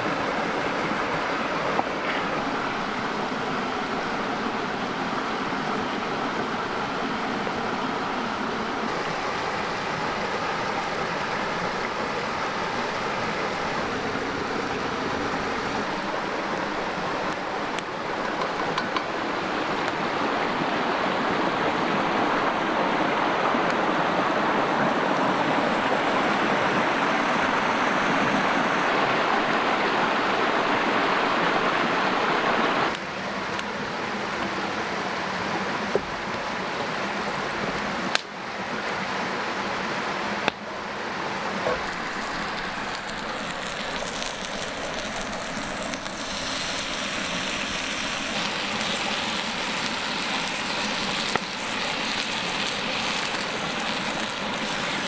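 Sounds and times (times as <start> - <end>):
creek running: 0.0 - 55.0.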